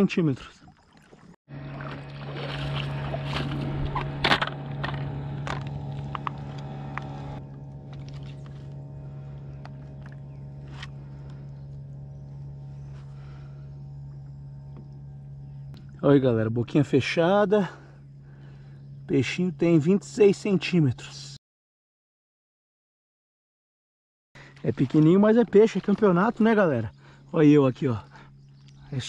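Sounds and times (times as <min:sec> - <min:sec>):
steady low hum: 0:01.5 - 0:21.4, 0:24.4 - 0:29.0.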